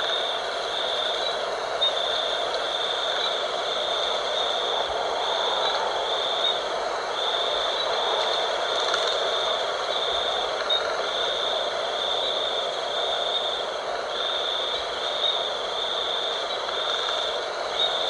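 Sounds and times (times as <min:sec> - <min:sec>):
wind blowing: 0:00.0 - 0:18.0.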